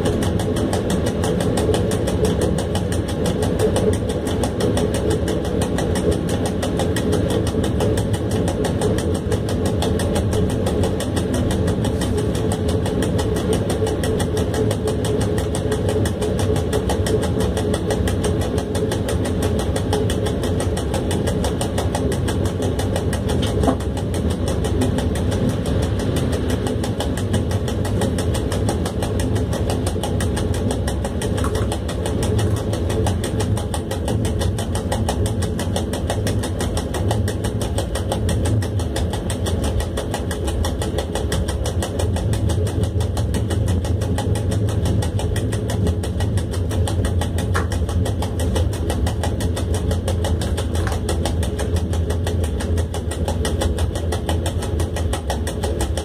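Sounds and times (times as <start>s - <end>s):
locomotive cab drone: 0.0s - 56.0s.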